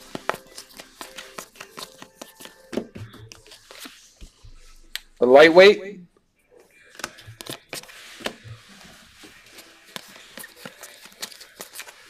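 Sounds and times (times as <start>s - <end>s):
cards rustling: 0.0s - 4.8s, 6.8s - 12.0s.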